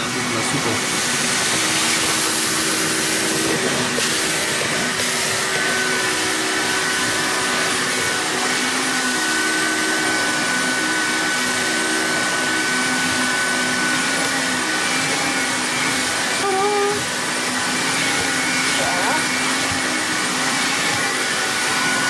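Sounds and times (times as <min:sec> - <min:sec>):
carpet cleaner suction motor: 0:00.0 - 0:22.0
hose tool sucking water from carpet: 0:00.5 - 0:22.0.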